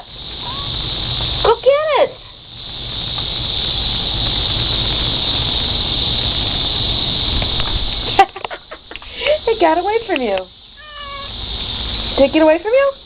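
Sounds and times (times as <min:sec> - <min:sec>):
cicada buzzing: 0:00.0 - 0:13.0.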